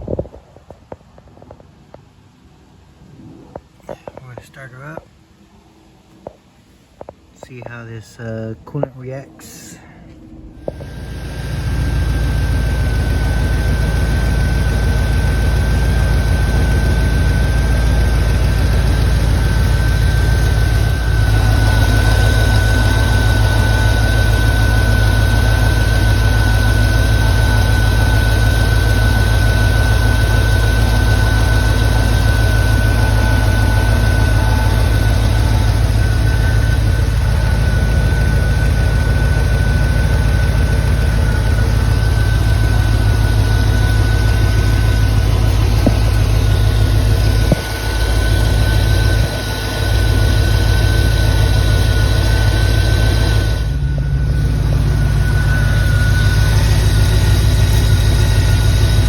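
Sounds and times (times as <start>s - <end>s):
thin steady whine: 0.0s - 59.0s
car engine idling: 9.4s - 59.0s.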